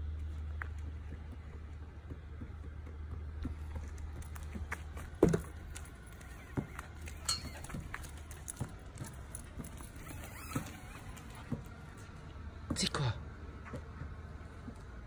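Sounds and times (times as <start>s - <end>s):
footsteps on pavement: 0.0s - 15.0s.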